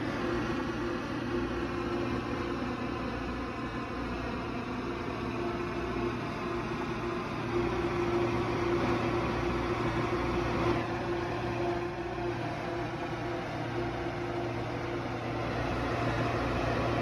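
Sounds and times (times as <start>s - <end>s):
electrical hum: 0.0s - 17.0s
train rumble and hiss: 0.0s - 17.0s.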